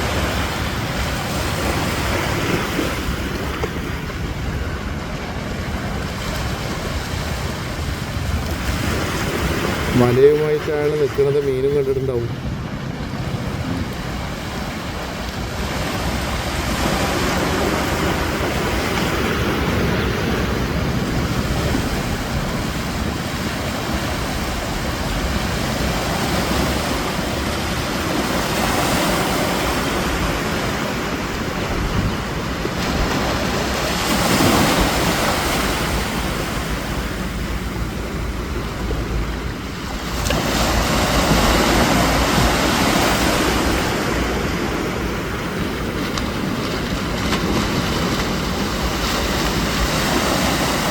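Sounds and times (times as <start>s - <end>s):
surf breaking and washing in: 0.0s - 50.9s
wind rumbling on microphone: 0.0s - 50.9s.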